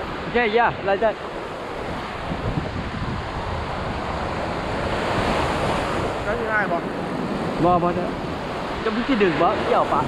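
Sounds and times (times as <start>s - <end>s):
surf washing up beach: 0.0s - 10.0s
wind buffeting microphone: 0.0s - 10.0s.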